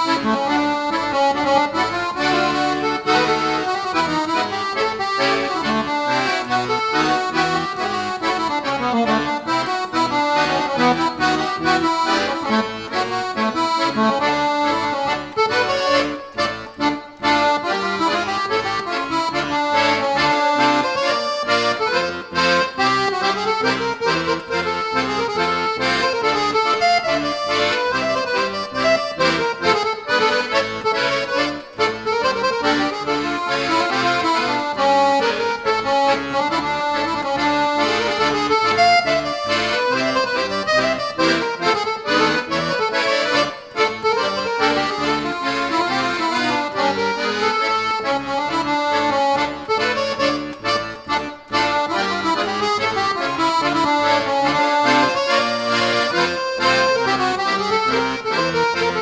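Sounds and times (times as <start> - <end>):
accordion playing a folk dance: 0.0 - 59.0.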